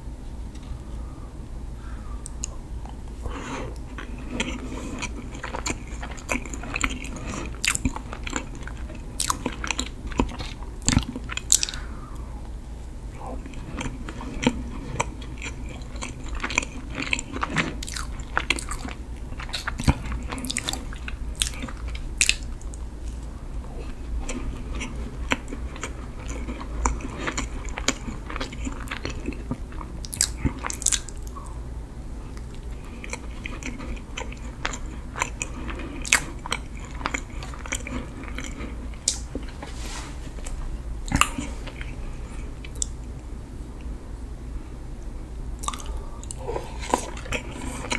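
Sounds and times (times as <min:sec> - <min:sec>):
chewing with sharp crackles: 0:02.1 - 0:12.3, 0:13.1 - 0:31.6, 0:32.3 - 0:43.2, 0:45.6 - 0:47.9.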